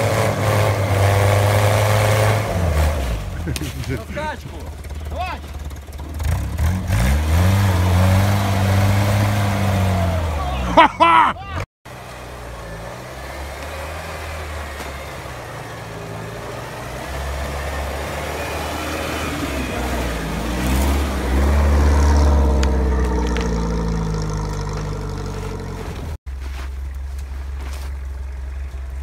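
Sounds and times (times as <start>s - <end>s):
off-road vehicle engine under load: 0.0s - 29.0s.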